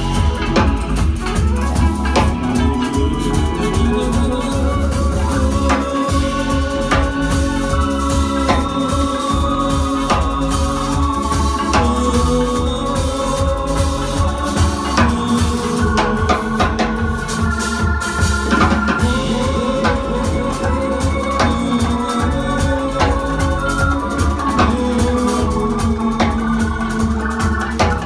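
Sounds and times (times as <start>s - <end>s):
bass line: 0.0s - 28.0s
drum hits: 0.0s - 28.0s
electric organ chords: 0.0s - 28.0s.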